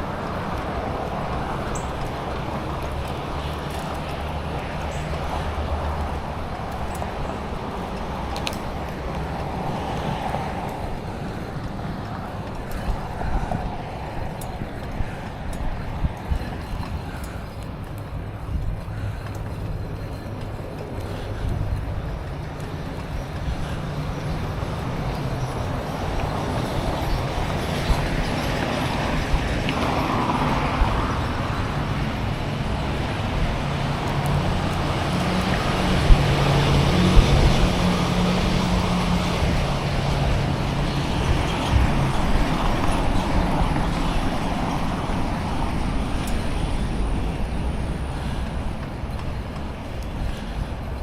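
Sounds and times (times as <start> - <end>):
road traffic noise: 0.0 - 51.0.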